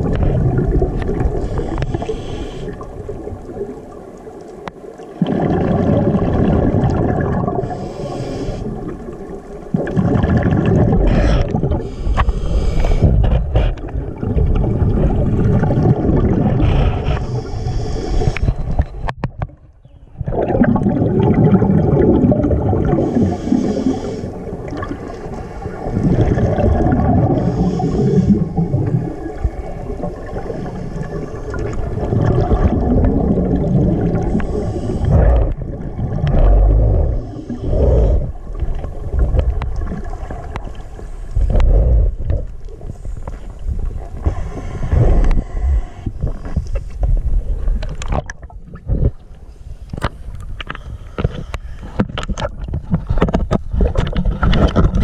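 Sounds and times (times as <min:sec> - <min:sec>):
underwater exhaled bubbles gurgling: 0:00.0 - 0:55.0.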